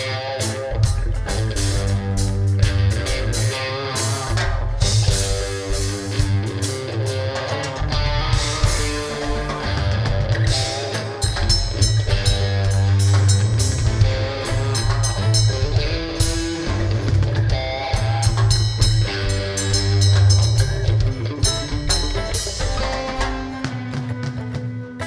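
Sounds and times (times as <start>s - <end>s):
drum kit beat: 0.0s - 25.0s
guitar: 0.0s - 25.0s
rock band playing: 0.0s - 25.0s.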